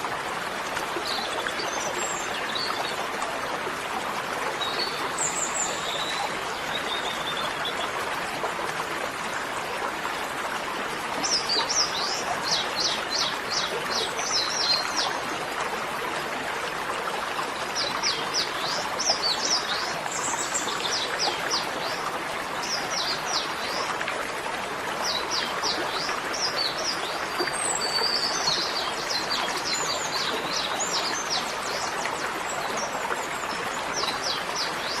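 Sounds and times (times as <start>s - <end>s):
rush of running water: 0.0s - 35.0s.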